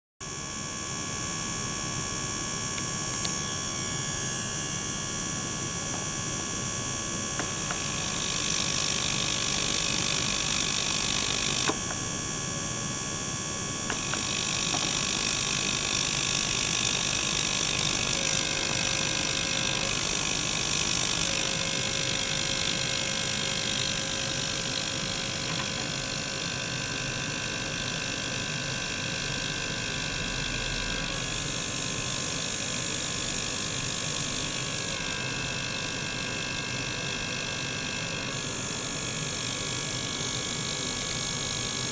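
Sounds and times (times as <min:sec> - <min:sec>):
electric buzz of cleaner and pump: 0:00.2 - 0:41.9.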